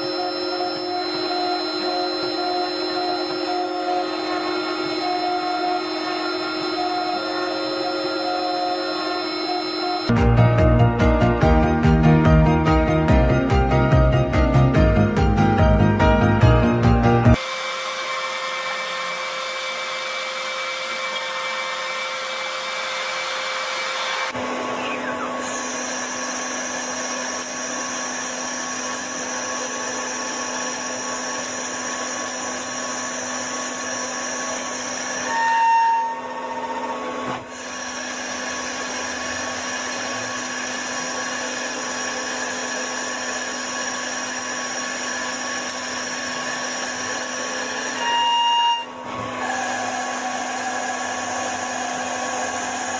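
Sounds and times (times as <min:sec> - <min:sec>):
lathe machining whine: 0:00.0 - 0:10.1, 0:17.4 - 0:52.9.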